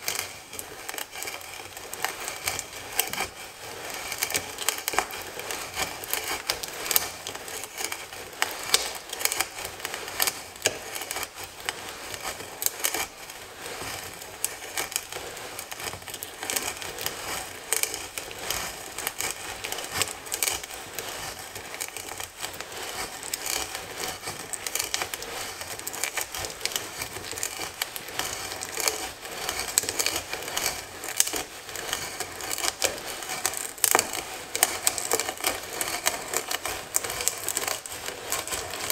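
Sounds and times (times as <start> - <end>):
small sharp clicks of shavings: 0.0 - 38.9.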